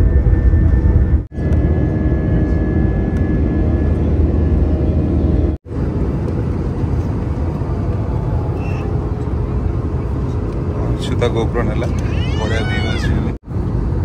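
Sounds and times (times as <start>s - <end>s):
jet engine drone in cabin: 0.0s - 14.0s.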